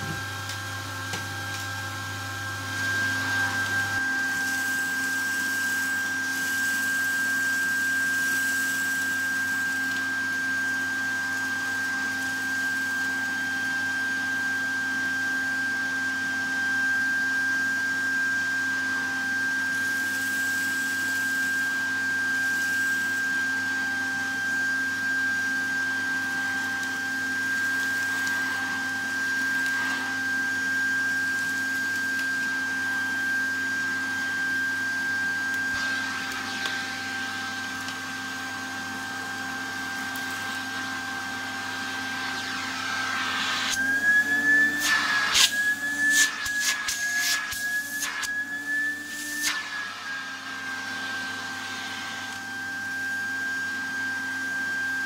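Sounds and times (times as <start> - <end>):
vacuum cleaner motor whining: 0.0 - 55.0.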